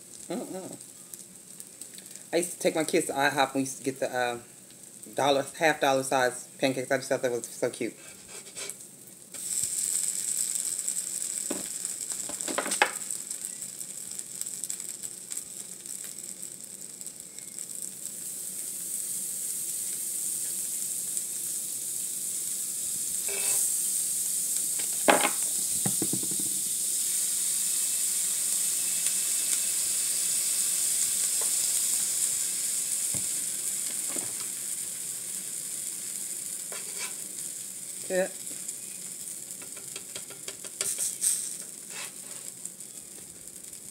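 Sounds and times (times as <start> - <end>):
batter sizzling on a griddle: 0.0 - 43.9.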